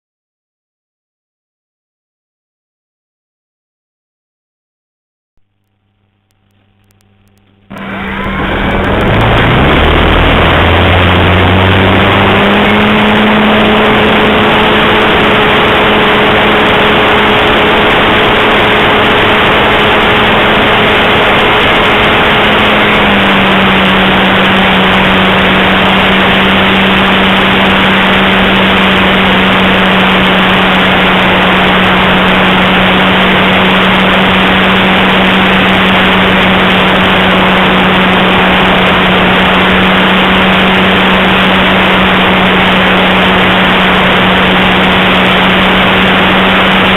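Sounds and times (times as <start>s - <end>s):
model airplane motor humming: 5.6s - 46.9s
wind rush on microphone: 7.7s - 46.9s.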